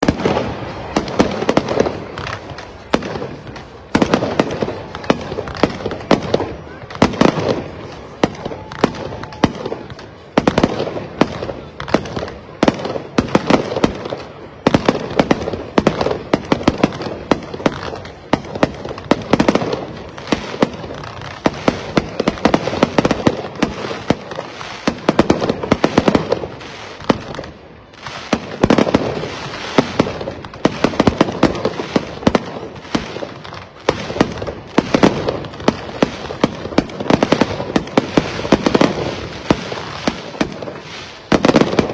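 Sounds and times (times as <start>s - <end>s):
continuous crackling: 0.0s - 41.9s
sharp bangs and pops: 0.0s - 41.9s.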